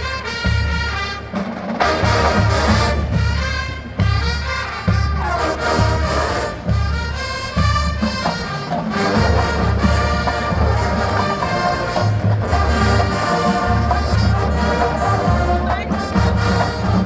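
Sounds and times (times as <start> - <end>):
drum beats: 0.0 - 17.0
marching band playing: 0.0 - 17.0.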